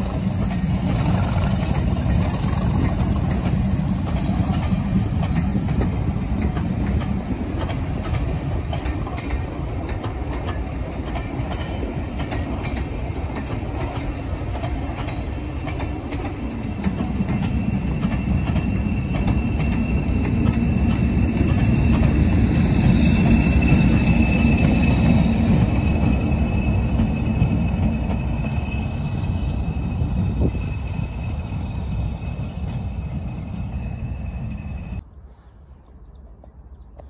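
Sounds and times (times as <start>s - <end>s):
train wheels rumbling and clattering: 0.0s - 35.0s.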